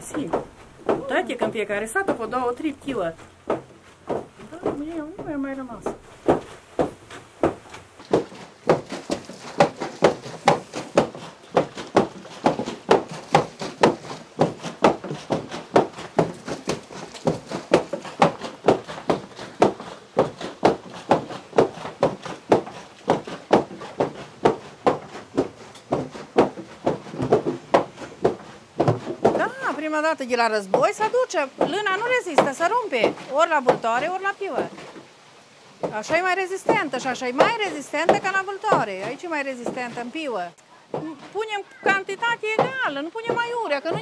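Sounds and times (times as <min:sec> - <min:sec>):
wooden hammers pounding cloth: 0:00.0 - 0:40.3, 0:40.9 - 0:44.0.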